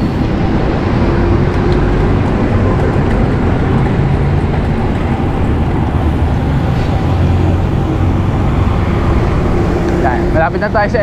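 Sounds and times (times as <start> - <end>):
low engine hum: 0.0 - 11.0
passing traffic: 0.0 - 11.0
wind rushing: 0.0 - 11.0.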